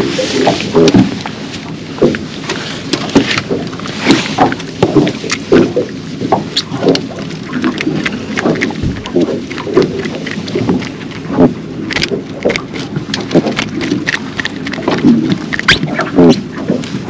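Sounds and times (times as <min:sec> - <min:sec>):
fish croaking grunts: 0:00.0 - 0:01.3, 0:01.9 - 0:17.0
fish flopping on boat deck: 0:00.0 - 0:17.0.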